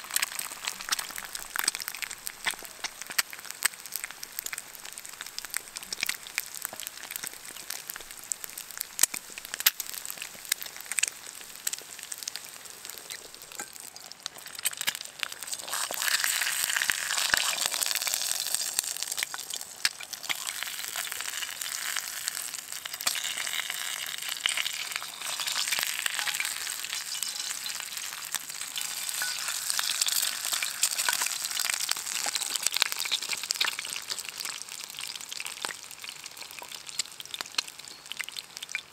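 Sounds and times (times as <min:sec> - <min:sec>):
eggs sizzling in a pan: 0:00.0 - 0:38.9
wood fire crackles and pops: 0:00.0 - 0:38.9.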